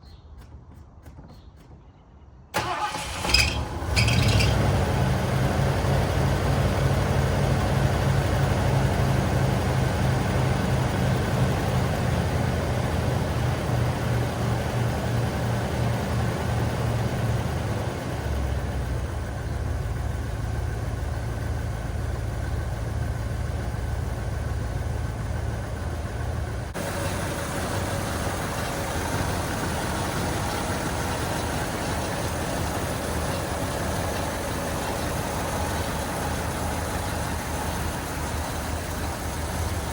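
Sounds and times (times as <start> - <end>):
car engine idling: 2.6 - 39.9.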